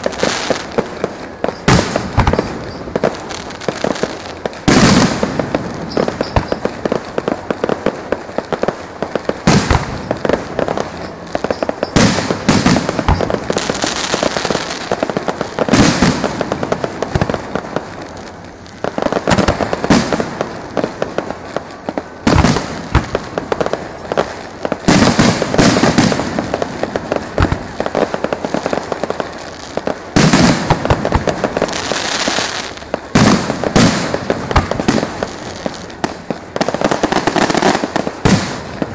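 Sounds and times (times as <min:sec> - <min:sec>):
firecracker crackle: 0:00.0 - 0:38.9
loud firework bangs: 0:00.0 - 0:38.9.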